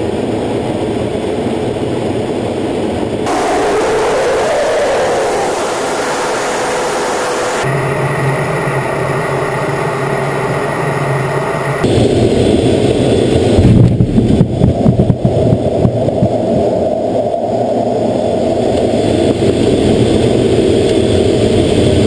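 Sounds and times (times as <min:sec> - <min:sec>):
jet engine and airflow noise: 0:00.0 - 0:22.0.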